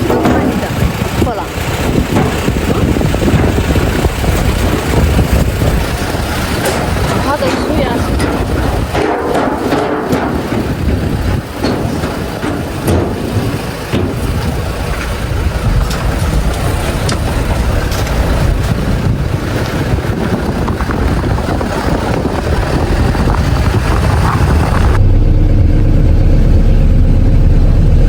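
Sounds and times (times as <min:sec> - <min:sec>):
low engine hum: 0:00.0 - 0:28.0
vehicle engine and road rumble: 0:00.0 - 0:28.0.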